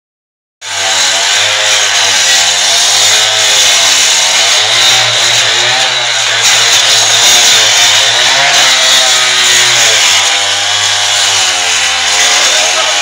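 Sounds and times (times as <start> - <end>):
blade grinding through concrete: 0.6 - 13.0
cut-off saw engine under load: 0.6 - 13.0.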